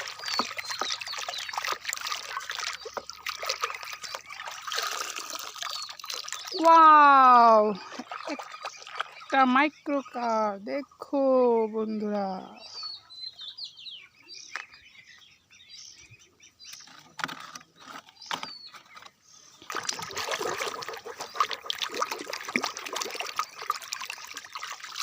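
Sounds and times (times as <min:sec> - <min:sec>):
water splashing and trickling: 0:00.0 - 0:12.7, 0:16.8 - 0:25.0
birds chirping: 0:00.0 - 0:25.0.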